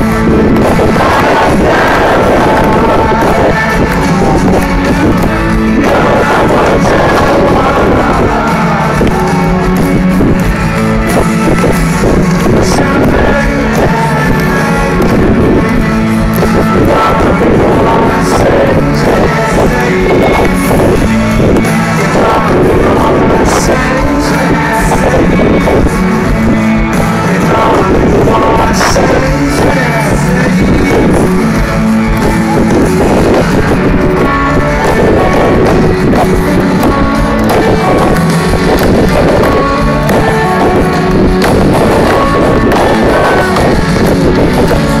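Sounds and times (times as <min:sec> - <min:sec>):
amplified electric guitars: 0:00.0 - 0:45.0
lead vocal singing: 0:00.0 - 0:45.0
live rock band playing: 0:00.0 - 0:45.0.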